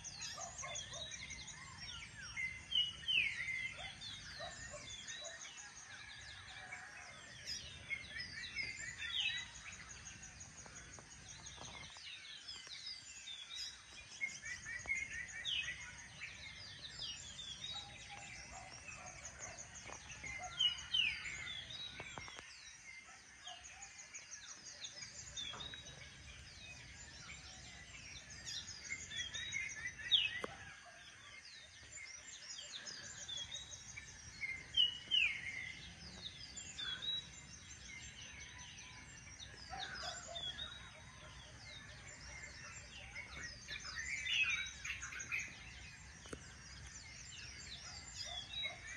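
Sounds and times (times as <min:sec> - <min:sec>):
birds chirping and trilling: 0:00.0 - 0:48.9.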